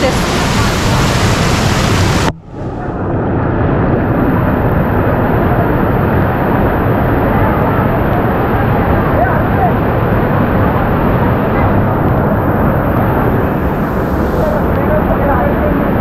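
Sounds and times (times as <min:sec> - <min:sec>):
waterfall rushing: 0:00.0 - 0:02.3, 0:04.2 - 0:16.0.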